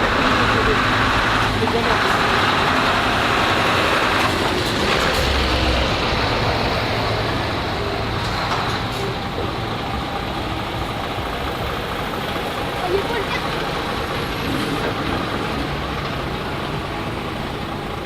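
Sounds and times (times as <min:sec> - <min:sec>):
heavy truck driving by: 0:00.0 - 0:18.0.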